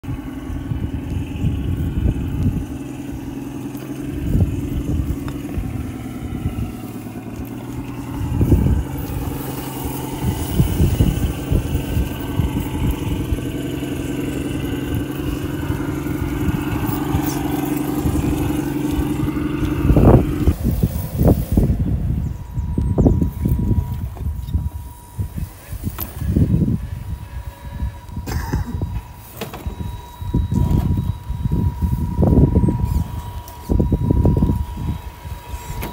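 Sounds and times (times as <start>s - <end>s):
electric motor and gearbox whining: 0.0s - 35.9s.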